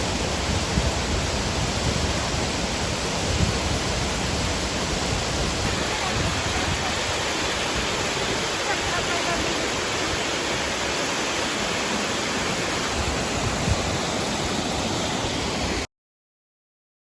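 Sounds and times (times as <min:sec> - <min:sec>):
waterfall roaring: 0:00.0 - 0:15.9.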